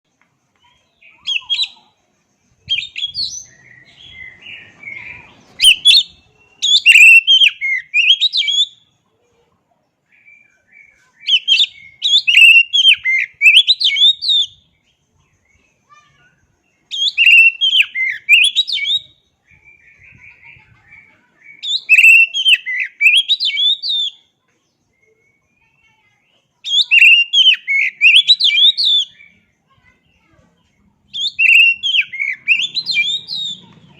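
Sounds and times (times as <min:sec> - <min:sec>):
soft bird twittering: 0:00.1 - 0:33.9
magpie-robin singing: 0:00.5 - 0:08.9, 0:10.1 - 0:33.9.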